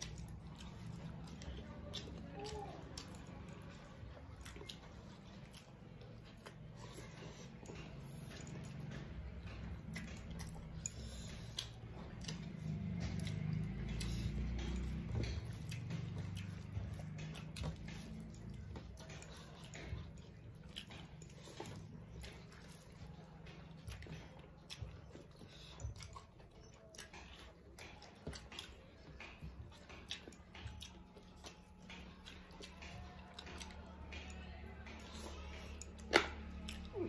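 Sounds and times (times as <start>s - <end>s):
fingers squishing food on plates: 0.0s - 37.0s
wet chewing and lip smacking: 0.0s - 37.0s.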